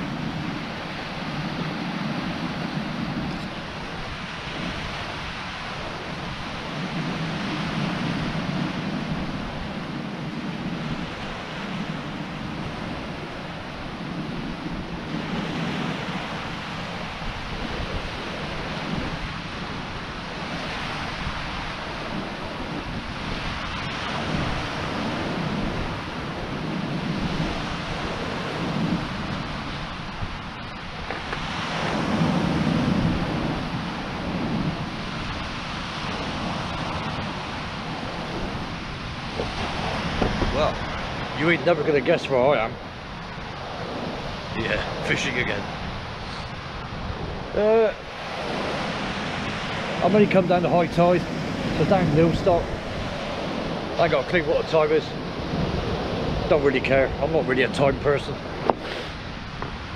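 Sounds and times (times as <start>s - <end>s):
waves washing over pebbles: 0.0s - 59.9s
wind rumbling on microphone: 0.0s - 59.9s.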